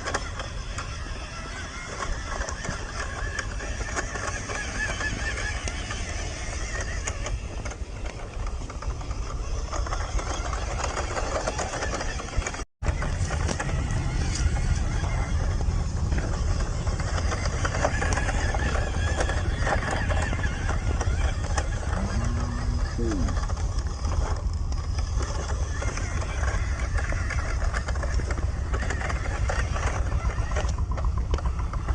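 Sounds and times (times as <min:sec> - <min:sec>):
toy truck electric motor whining: 0:00.0 - 0:31.9
tyres crunching on rough ground: 0:00.0 - 0:31.9.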